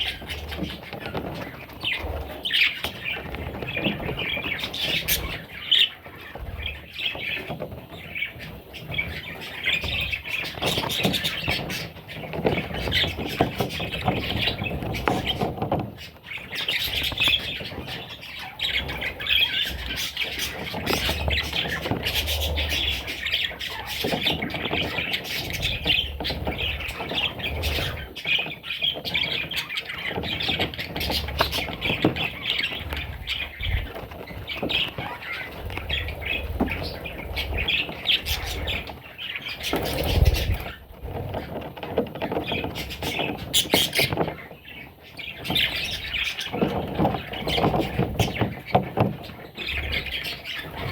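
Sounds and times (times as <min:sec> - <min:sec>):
budgerigars squawking and chattering: 0:00.0 - 0:50.9.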